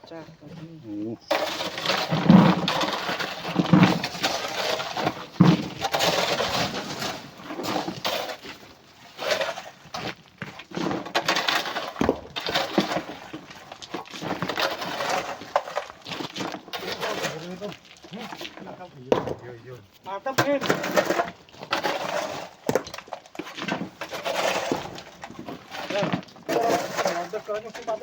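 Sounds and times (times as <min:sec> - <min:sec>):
rocks clattering and grinding: 0:00.0 - 0:28.0.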